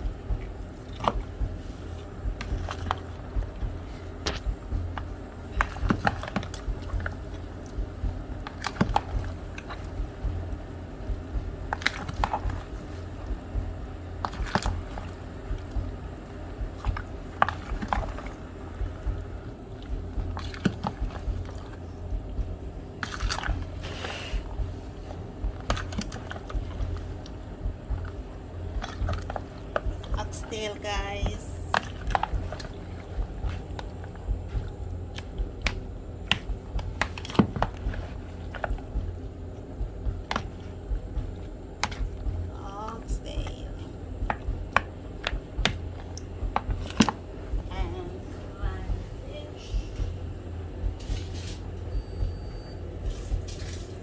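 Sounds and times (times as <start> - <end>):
wet squelches of mixing meat: 0.0 - 51.0
steady low hum: 0.0 - 54.0.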